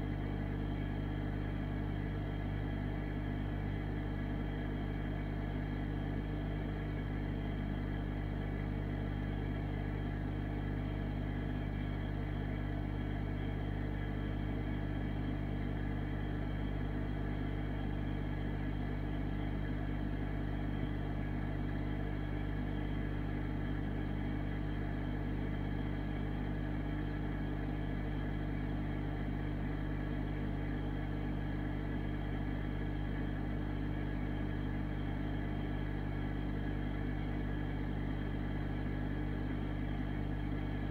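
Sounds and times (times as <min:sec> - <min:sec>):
aquarium pump humming: 0:00.0 - 0:40.9.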